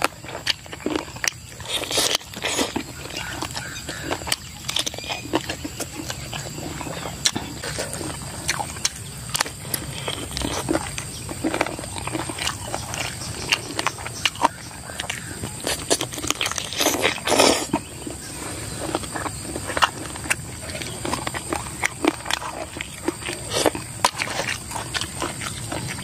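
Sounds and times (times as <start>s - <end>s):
small crunches: 0.0s - 26.0s
wet chewing and lip-smacking: 0.0s - 26.0s.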